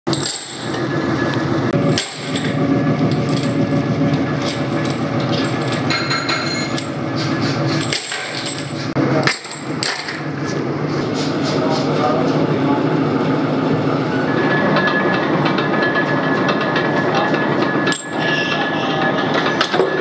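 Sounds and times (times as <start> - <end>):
workshop machinery hum: 0.1 - 20.0.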